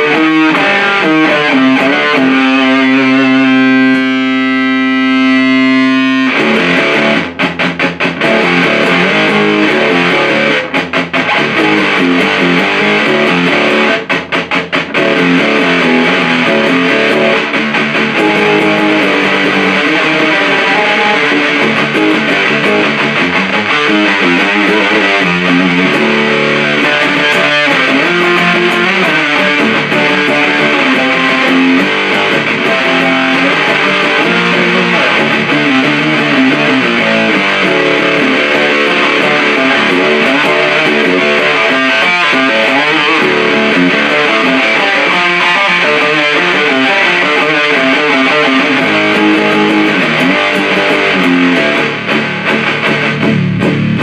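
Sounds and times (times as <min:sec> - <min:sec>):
fuzzed electric guitar riff: 0:00.0 - 0:54.0.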